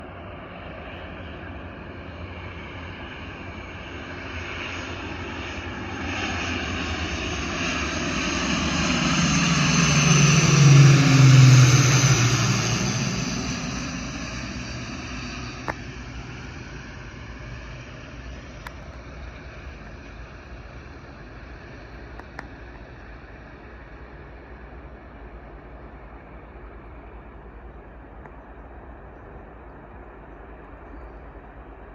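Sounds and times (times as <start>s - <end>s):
turboprop plane passing: 0.0s - 31.9s.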